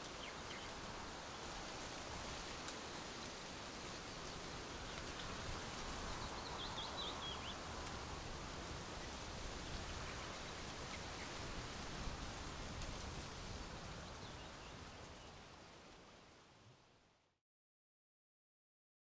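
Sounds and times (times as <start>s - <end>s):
outdoor nature ambience hiss: 0.0s - 17.4s.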